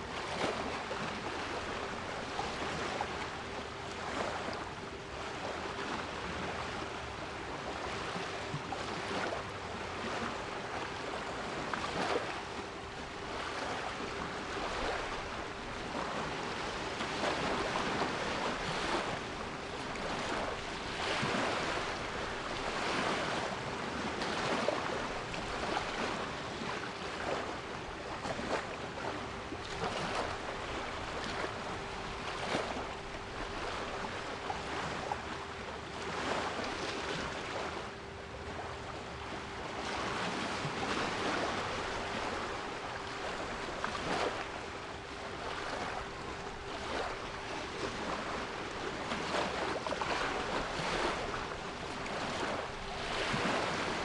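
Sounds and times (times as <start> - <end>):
sea waves washing: 8.8 - 37.9, 39.3 - 54.0.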